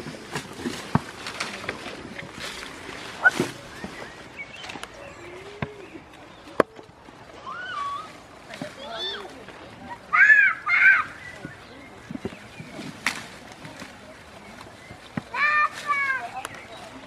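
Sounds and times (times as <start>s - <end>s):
hooves splashing on wet ground: 0.0s - 17.0s.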